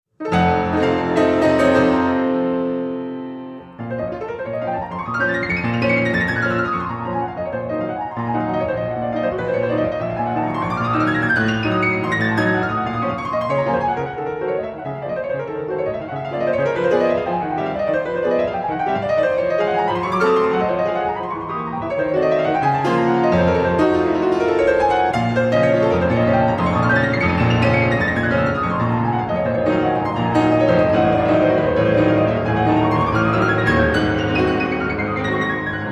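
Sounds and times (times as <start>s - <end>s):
piano music with fast runs: 0.2s - 35.9s.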